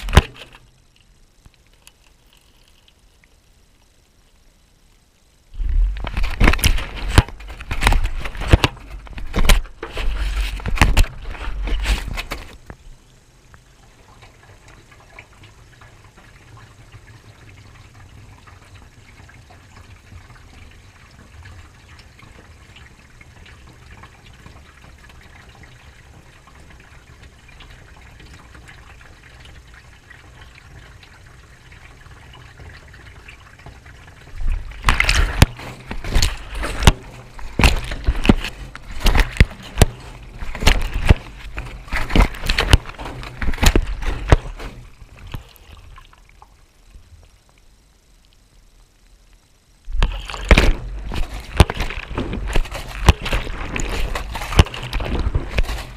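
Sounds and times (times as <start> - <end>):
water trickling in: 0.0 - 55.9
washing machine humming: 5.3 - 48.1, 49.6 - 55.9
water and wet clothes sloshing: 5.6 - 12.8, 13.8 - 46.6, 49.9 - 55.9.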